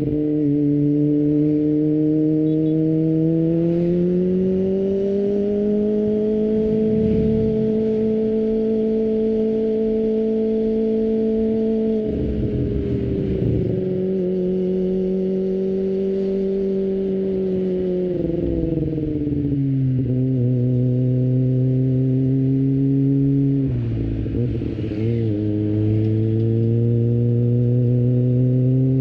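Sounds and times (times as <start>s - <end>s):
motorcycle engine while riding: 0.0s - 29.0s.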